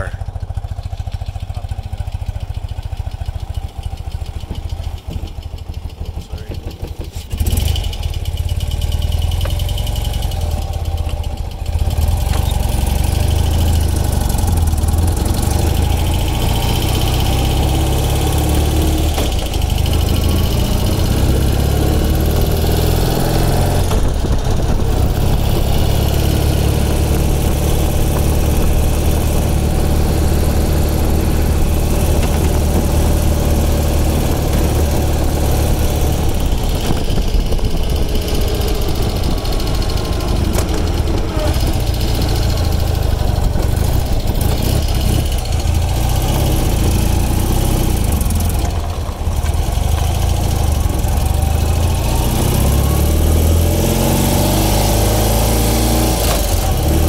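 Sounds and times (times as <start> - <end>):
motorcycle engine idling and pulling away: 0.0 - 57.0.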